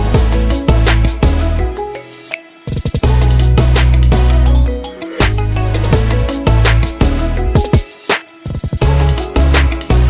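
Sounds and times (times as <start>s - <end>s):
music with heavy bass and drums: 0.0s - 10.0s.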